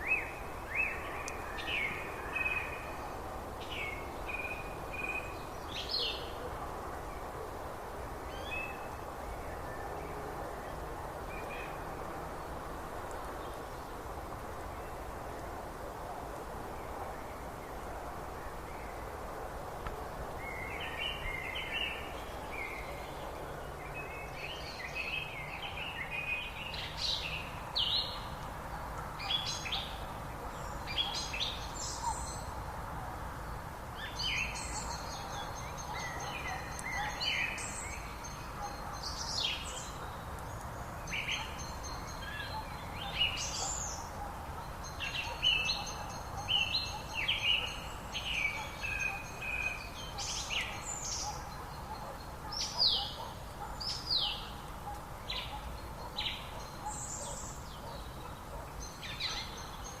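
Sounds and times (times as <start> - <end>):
songbirds chirping and trilling: 0.0 - 60.0
steady background hiss: 0.0 - 60.0.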